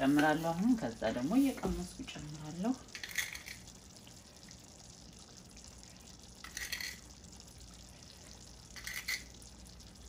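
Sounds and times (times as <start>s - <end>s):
salt hissing into liquid: 0.0s - 10.0s
stew simmering: 0.0s - 10.0s.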